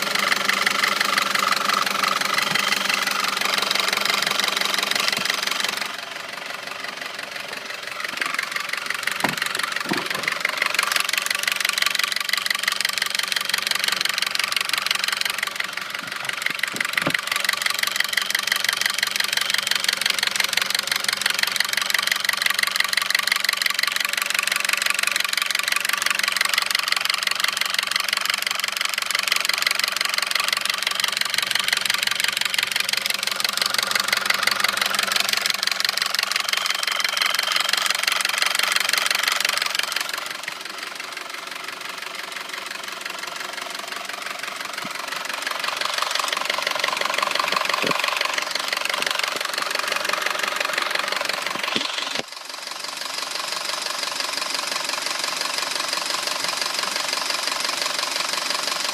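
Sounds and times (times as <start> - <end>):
car engine idling: 0.0 - 58.9
engine knocking: 0.0 - 58.9.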